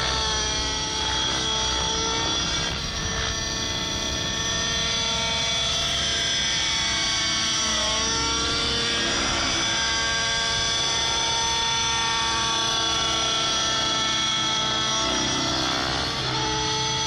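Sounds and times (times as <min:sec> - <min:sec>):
model helicopter engine and rotor: 0:00.0 - 0:17.0.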